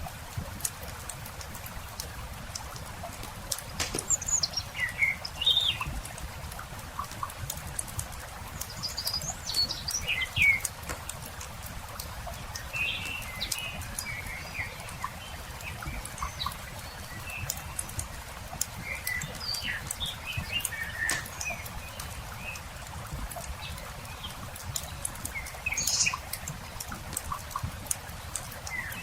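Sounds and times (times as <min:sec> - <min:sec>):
campfire crackling: 0:00.0 - 0:29.0
songbirds chirping: 0:00.6 - 0:29.0.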